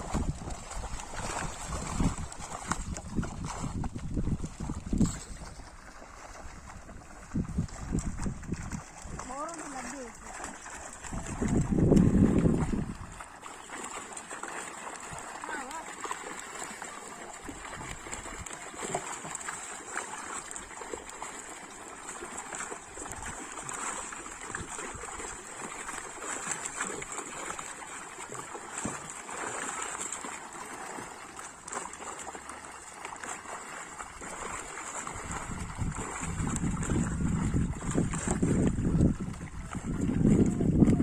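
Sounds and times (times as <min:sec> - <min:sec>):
fish splashing: 0:00.0 - 0:41.0
water splashing and trickling: 0:00.0 - 0:41.0.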